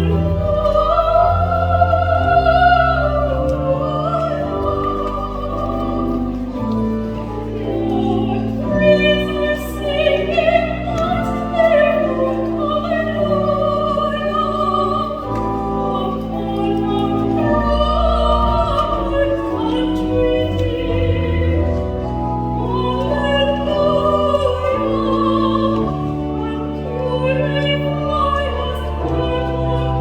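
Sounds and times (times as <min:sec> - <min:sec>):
soprano singing with vibrato: 0:00.0 - 0:30.0.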